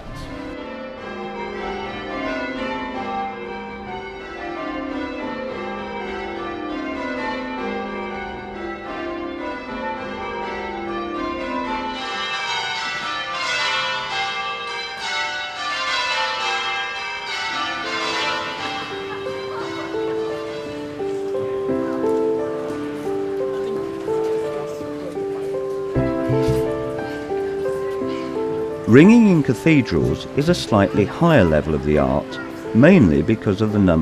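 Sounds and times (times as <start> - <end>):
church bells ringing in rounds: 0.0 - 34.0.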